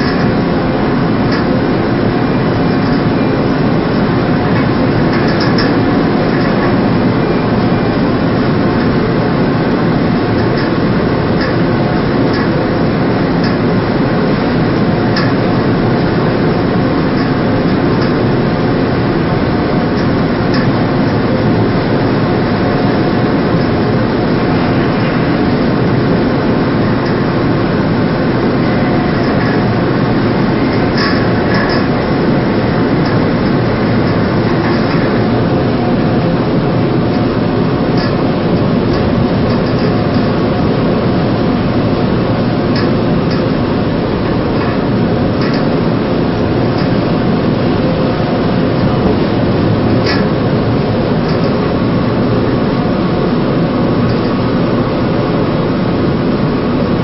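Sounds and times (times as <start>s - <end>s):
ship machinery drone: 0.0s - 57.0s.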